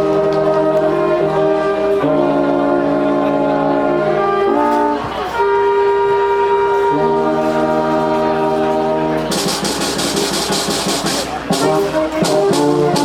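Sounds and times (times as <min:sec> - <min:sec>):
wind band playing brass chords: 0:00.0 - 0:13.0.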